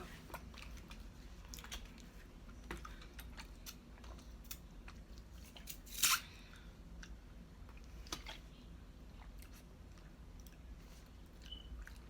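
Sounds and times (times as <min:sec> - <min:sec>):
chewing and eating: 0:00.1 - 0:12.0.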